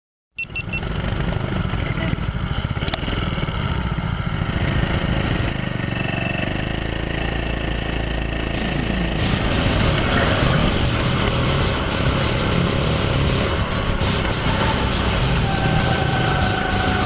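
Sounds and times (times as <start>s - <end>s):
go-kart engines running: 0.5s - 17.0s.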